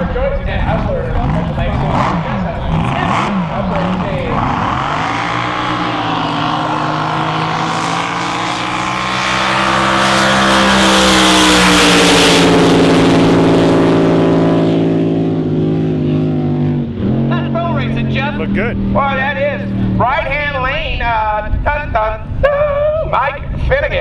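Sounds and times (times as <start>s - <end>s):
drag boat engine passing: 0.0s - 21.6s.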